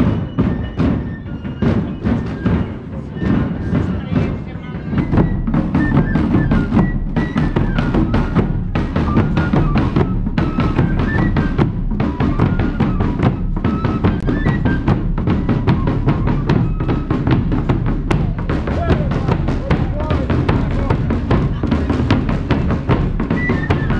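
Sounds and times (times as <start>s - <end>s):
drums beating steady rhythm: 0.0s - 23.9s.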